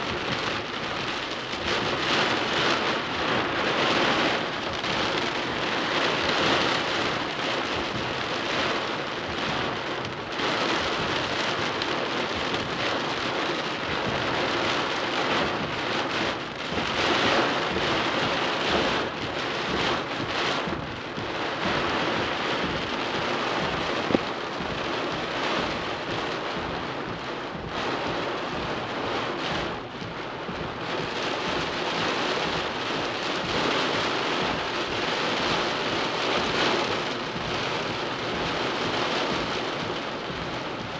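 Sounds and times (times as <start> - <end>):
rain falling steadily: 0.0 - 40.9.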